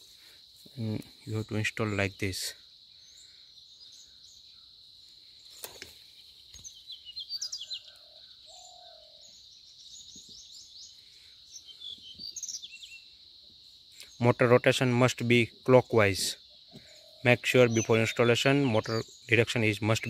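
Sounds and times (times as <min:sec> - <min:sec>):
birds chirping: 0:00.0 - 0:20.0
high insect drone: 0:00.0 - 0:20.0.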